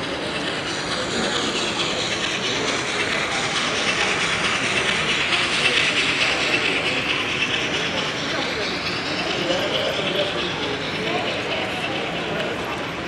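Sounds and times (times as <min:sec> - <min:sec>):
hall background noise: 0:00.0 - 0:13.0
model train running on track: 0:00.0 - 0:13.0.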